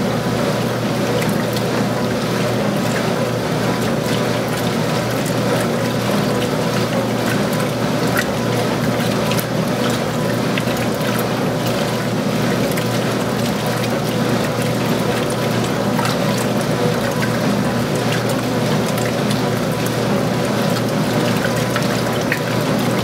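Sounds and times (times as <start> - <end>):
washer motor hum: 0.0 - 23.0
water and clothes sloshing: 0.0 - 23.0.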